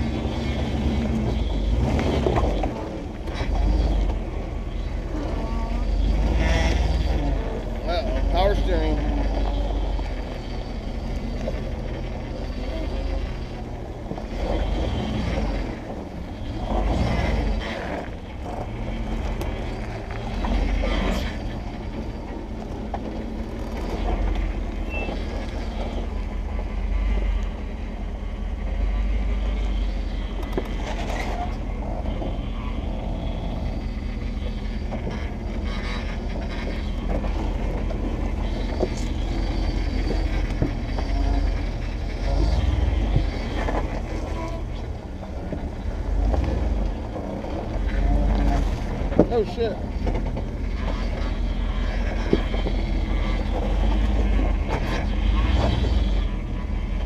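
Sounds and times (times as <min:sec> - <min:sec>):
tyres grinding over rock: 0:00.0 - 0:27.4, 0:29.3 - 0:57.0
engine running at low crawl: 0:00.0 - 0:57.0
knocks and scrapes: 0:00.0 - 0:57.0.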